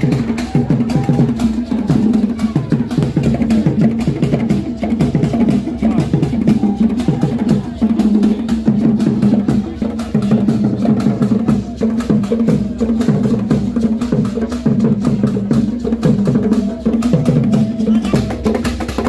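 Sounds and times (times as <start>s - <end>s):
drums: 0.0s - 19.0s.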